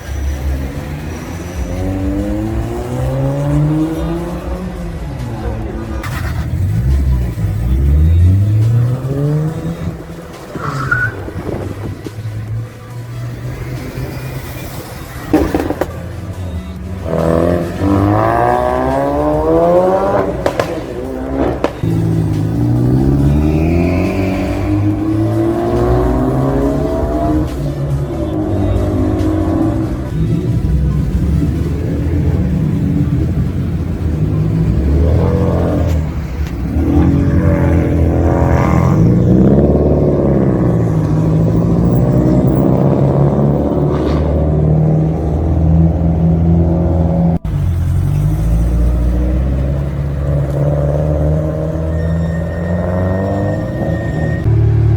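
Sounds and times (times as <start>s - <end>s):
background music: 0.0s - 54.9s
car engine accelerating hard: 0.0s - 54.9s.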